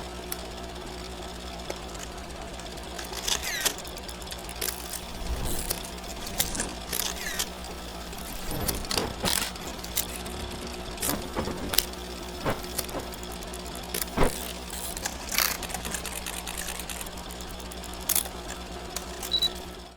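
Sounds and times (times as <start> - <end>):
film projector running hum: 0.0 - 19.9
crackles and pops of old film: 0.2 - 19.8.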